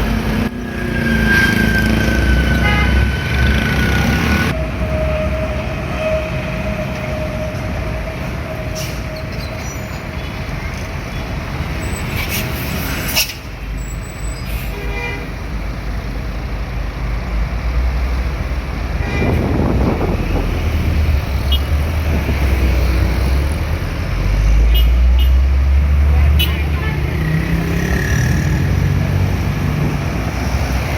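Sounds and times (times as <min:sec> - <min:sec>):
trucks driving past: 0:00.0 - 0:30.9.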